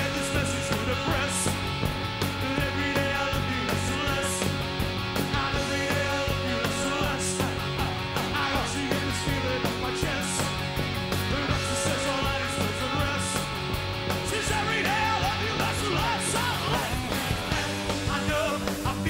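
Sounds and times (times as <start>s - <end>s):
man singing: 0.0s - 4.6s, 5.2s - 10.5s, 11.3s - 13.6s, 14.2s - 19.0s
rock band playing live: 0.0s - 19.0s.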